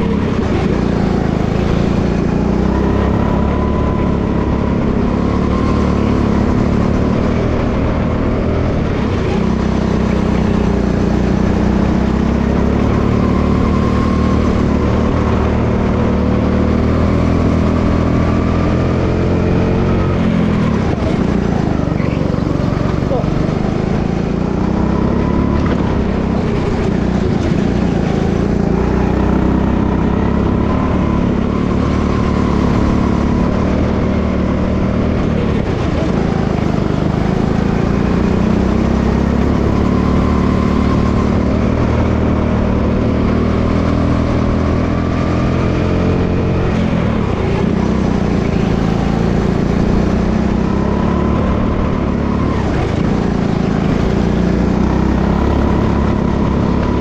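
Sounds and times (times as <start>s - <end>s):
go-kart engine: 0.0s - 57.0s.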